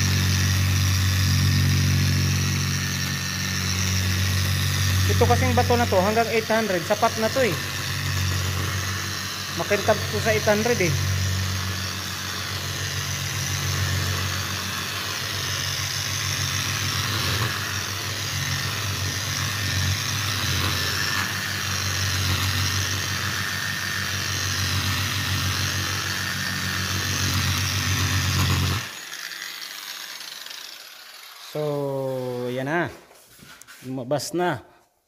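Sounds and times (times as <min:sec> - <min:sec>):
angle grinder polishing: 0:00.0 - 0:34.6.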